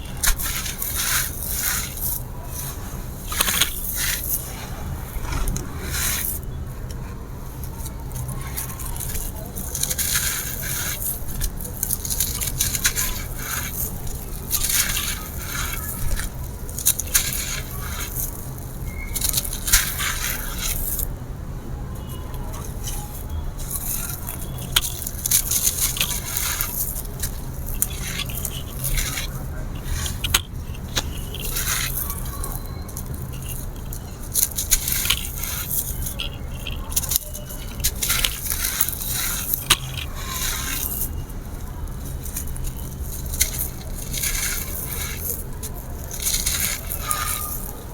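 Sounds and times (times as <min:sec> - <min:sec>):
concrete crunching and crackling: 0:00.0 - 0:47.9.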